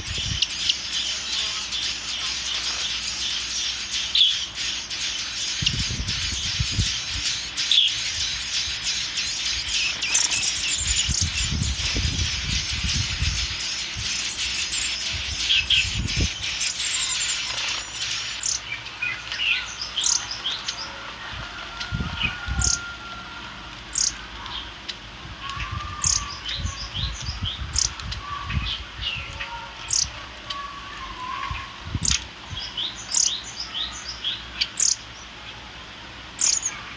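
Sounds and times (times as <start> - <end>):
young bird peeping: 0.0 - 35.2, 36.3 - 36.9.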